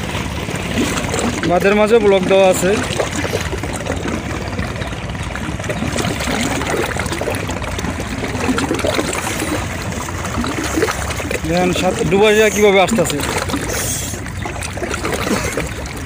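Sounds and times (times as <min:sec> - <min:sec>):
people swimming splashing: 0:00.0 - 0:16.0
waves lapping against embankment: 0:00.0 - 0:16.0.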